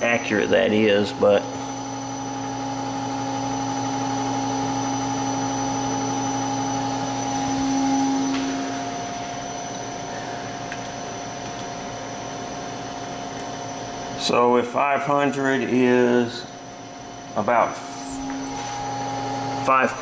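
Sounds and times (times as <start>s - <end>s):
motor hum and whine: 0.0s - 20.0s.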